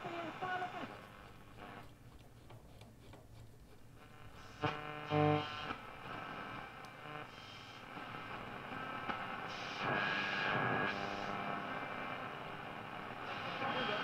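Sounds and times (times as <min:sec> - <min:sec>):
radio static and hiss: 0:00.0 - 0:02.0, 0:04.0 - 0:14.0
faint radio station audio: 0:00.0 - 0:14.0.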